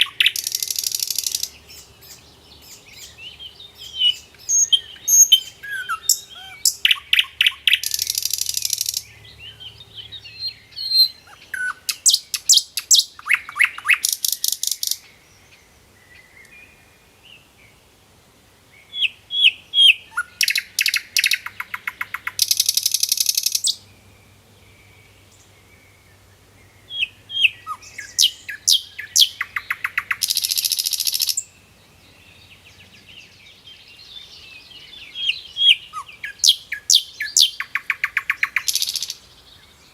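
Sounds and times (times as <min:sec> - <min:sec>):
songbird singing with buzzy trill: 0:00.0 - 0:39.9.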